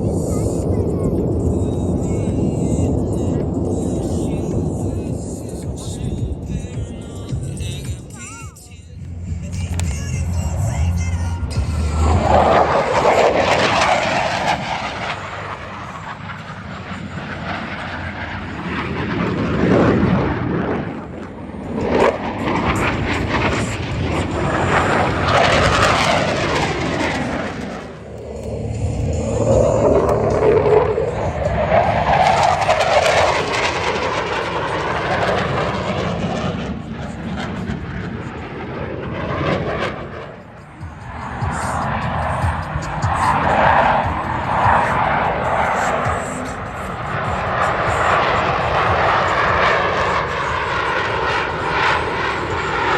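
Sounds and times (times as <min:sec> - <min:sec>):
aircraft engine roar: 0:00.0 - 0:52.9.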